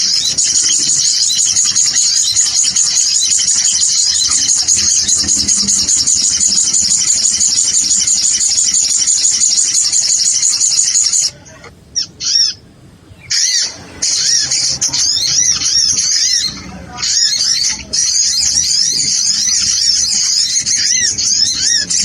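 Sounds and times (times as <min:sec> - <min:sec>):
bird chattering trill: 0:00.0 - 0:22.0
bird chirps: 0:00.0 - 0:22.0.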